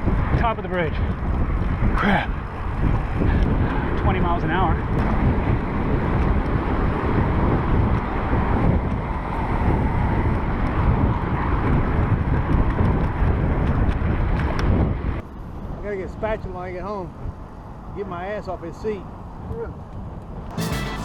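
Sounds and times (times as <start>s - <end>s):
wind rushing over microphone: 0.0s - 20.5s.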